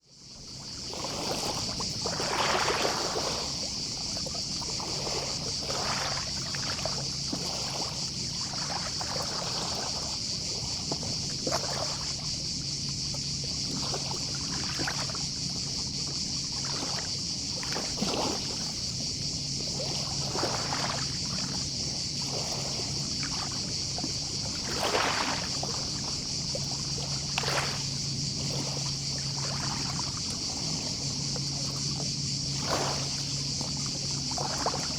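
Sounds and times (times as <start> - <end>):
distant cicadas: 0.0 - 34.9
small waves lapping on beach: 0.0 - 34.9.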